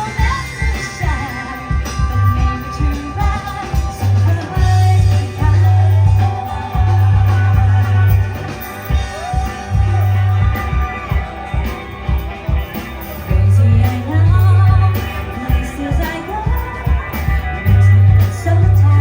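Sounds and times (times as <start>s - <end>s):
bass notes: 0.0s - 19.0s
person singing: 0.0s - 19.0s
rock band playing live: 0.0s - 19.0s.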